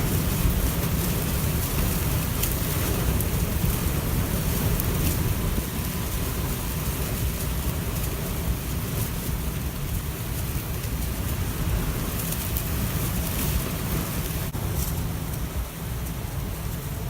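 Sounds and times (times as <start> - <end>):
wind buffeting microphone: 0.0 - 17.0
wind-driven rain hiss: 0.0 - 17.0.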